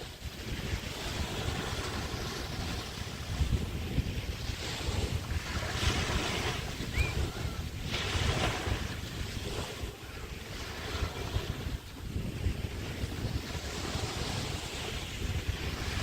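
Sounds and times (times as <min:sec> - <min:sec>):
waves washing up sand: 0:00.0 - 0:16.0
wind buffeting microphone: 0:00.0 - 0:16.0.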